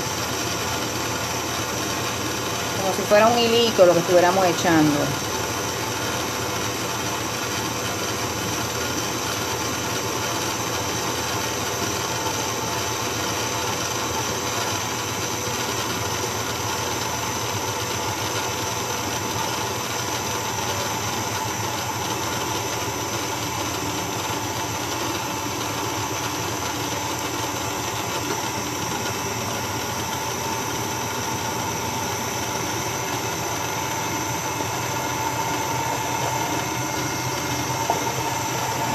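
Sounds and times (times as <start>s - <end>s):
stand mixer whisking: 0.0s - 38.9s.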